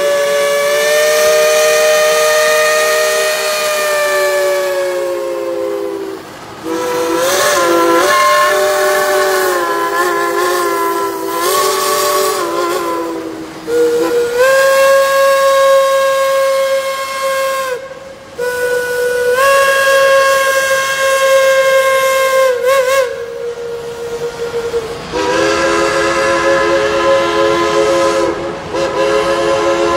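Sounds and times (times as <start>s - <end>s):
single-note steam whistle blasts: 0.0s - 29.9s
steady steam hiss: 0.0s - 29.9s.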